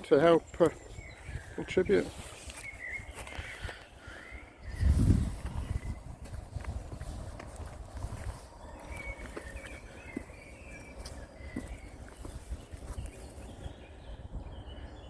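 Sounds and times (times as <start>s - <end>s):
footsteps on muddy path: 0.0s - 13.9s
bird chirping: 0.0s - 15.0s.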